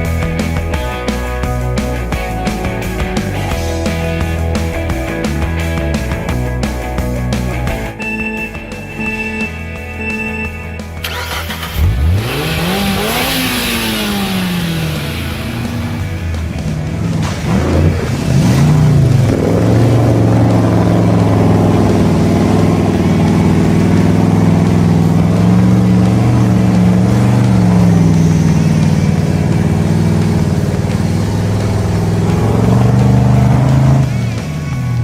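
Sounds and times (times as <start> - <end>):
engine running and revving: 0.0 - 35.0.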